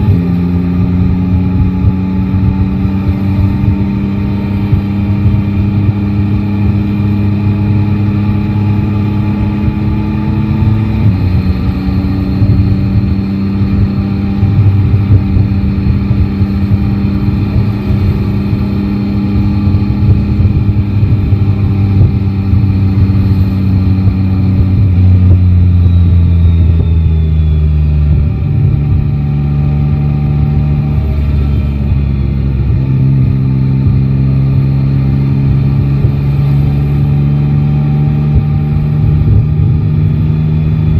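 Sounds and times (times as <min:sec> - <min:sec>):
motorcycle engine running: 0:00.0 - 0:40.9
road noise: 0:00.0 - 0:40.9
wind noise: 0:00.0 - 0:40.9.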